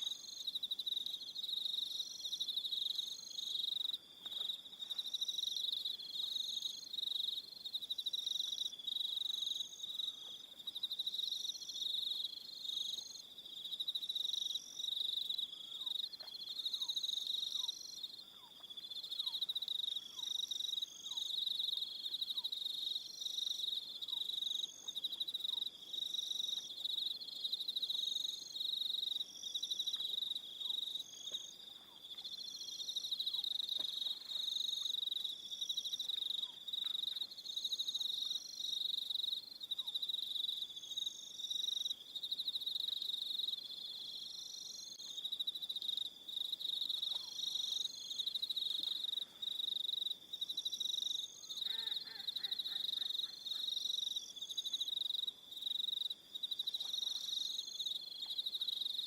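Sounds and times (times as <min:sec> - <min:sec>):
crickets chirping: 0:00.0 - 0:59.0
crickets trilling: 0:00.0 - 0:59.0.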